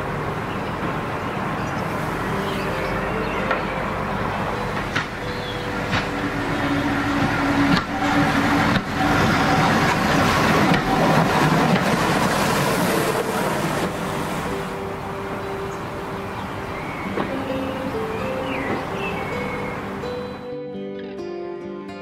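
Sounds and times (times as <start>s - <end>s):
train running: 0.0s - 20.5s
background music: 1.2s - 22.0s.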